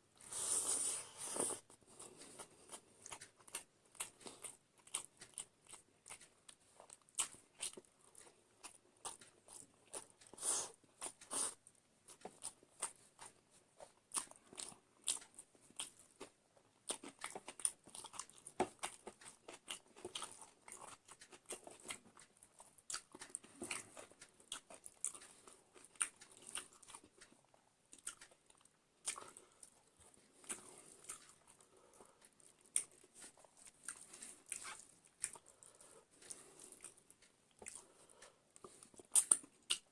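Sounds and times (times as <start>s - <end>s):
person chewing crunchy food: 0.2s - 39.9s.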